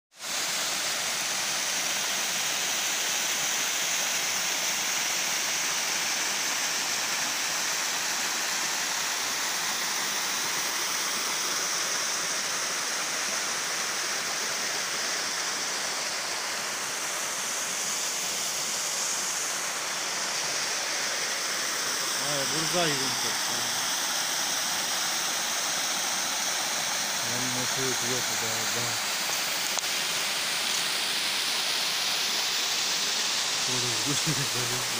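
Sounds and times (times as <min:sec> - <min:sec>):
waterfall rushing into pool: 0:00.2 - 0:34.9.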